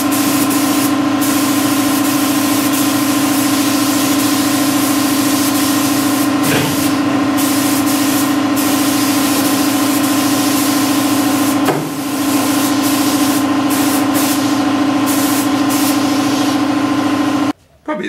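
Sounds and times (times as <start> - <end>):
spray gun hissing: 0.0 - 16.8
steady machine hum: 0.0 - 17.6.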